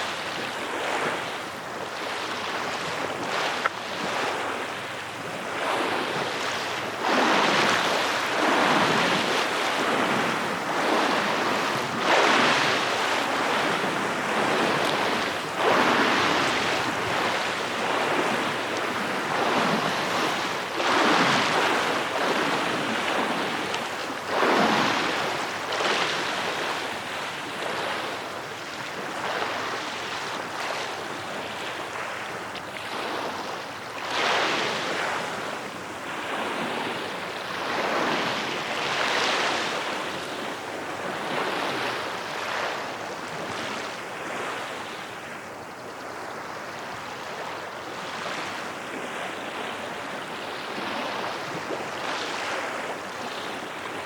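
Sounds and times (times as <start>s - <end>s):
waves washing onto shore: 0.0s - 54.0s.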